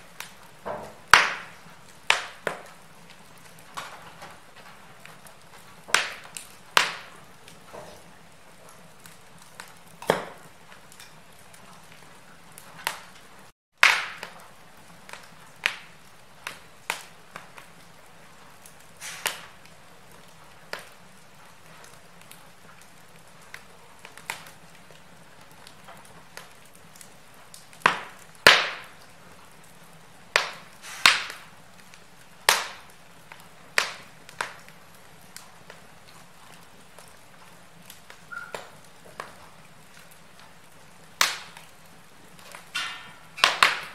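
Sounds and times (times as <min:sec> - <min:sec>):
faint steady hiss: 0:00.0 - 0:43.9
wood fire crackling: 0:00.0 - 0:43.9.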